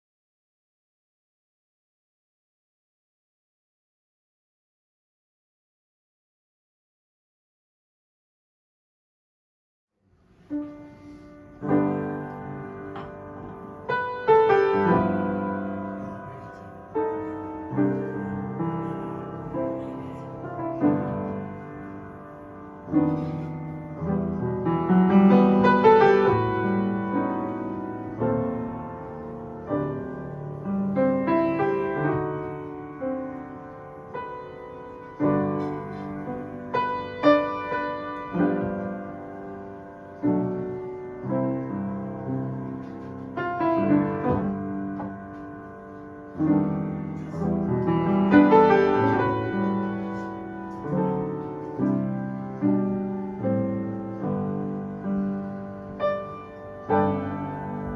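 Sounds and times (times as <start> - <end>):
solo piano music: 10.1 - 57.9.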